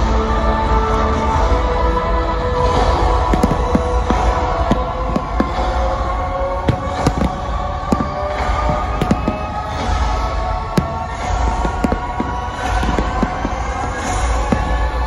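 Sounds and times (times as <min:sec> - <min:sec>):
steady music: 0:00.0 - 0:15.0
fireworks bangs and pops: 0:02.6 - 0:15.0.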